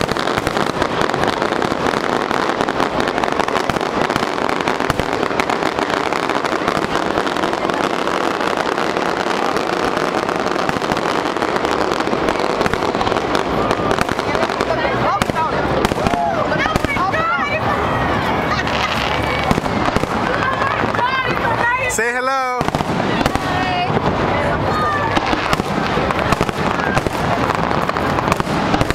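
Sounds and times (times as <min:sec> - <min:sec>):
fireworks bursting: 0:00.0 - 0:28.9.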